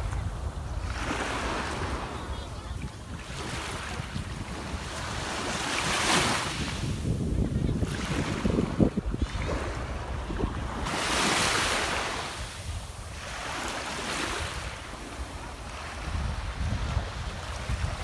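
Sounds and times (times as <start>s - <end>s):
sea waves washing onto shore: 0.0s - 18.0s
wind buffeting microphone: 0.0s - 18.0s.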